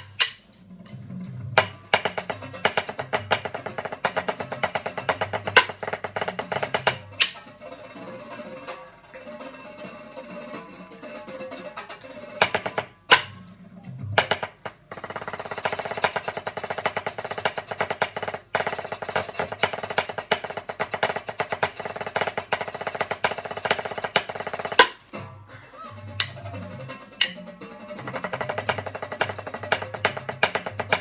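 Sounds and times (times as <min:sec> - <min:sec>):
snare drumming: 0:00.0 - 0:00.7, 0:01.6 - 0:09.5, 0:10.2 - 0:25.3, 0:26.0 - 0:31.0.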